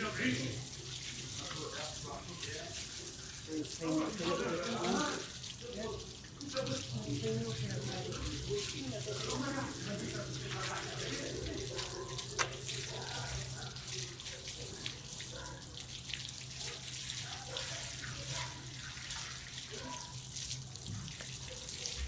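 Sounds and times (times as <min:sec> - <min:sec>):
shower water splashing: 0:00.0 - 0:22.0.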